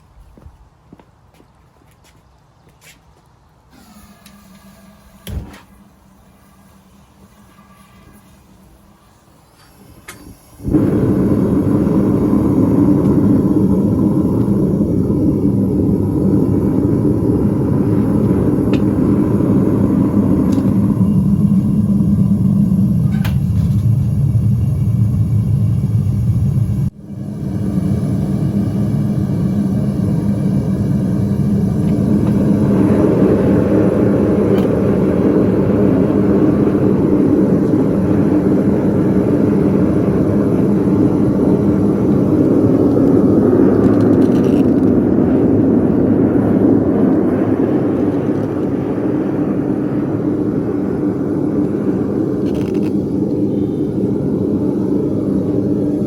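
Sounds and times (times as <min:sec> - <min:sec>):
furnace burner roaring: 0:03.4 - 0:56.0.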